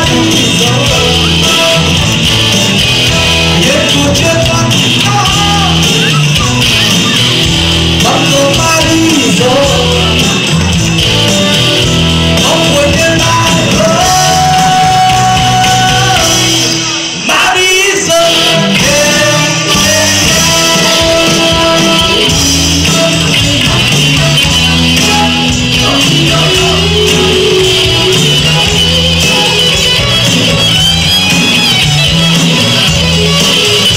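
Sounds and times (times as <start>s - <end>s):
drum kit: 0.0s - 33.9s
electric bass: 0.0s - 33.9s
person singing: 0.0s - 33.9s.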